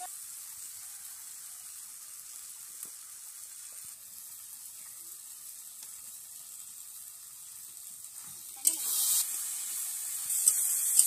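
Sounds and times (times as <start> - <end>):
curry sizzling in a wok: 0.0 - 11.0.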